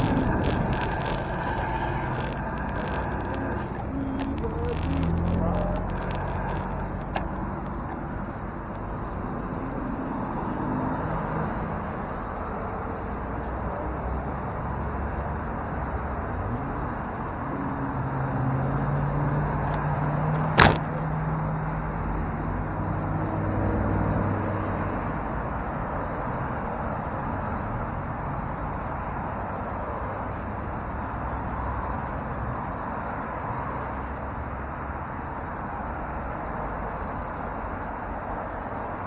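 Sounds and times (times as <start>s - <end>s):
motor traffic passing: 0.0s - 39.0s
wind and road noise: 0.0s - 39.0s.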